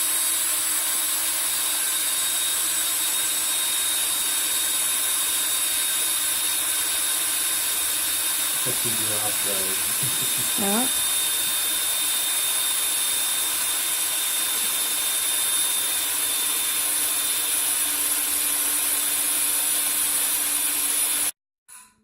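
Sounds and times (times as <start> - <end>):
machine hissing with high whine: 2.0 - 21.3.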